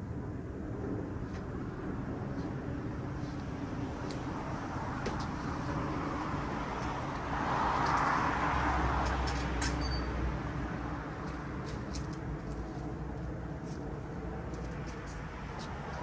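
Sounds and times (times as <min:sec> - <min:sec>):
vehicle passing: 0:00.8 - 0:16.0.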